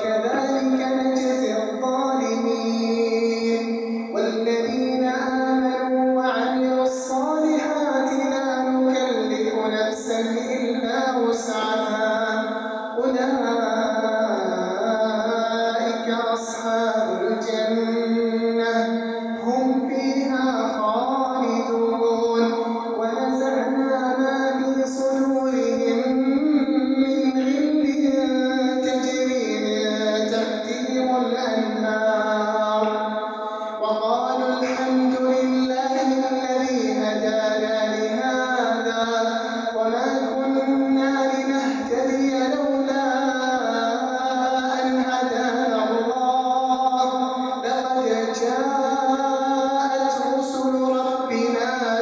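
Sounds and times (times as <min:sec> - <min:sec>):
man reciting melodically: 0:00.0 - 0:52.0.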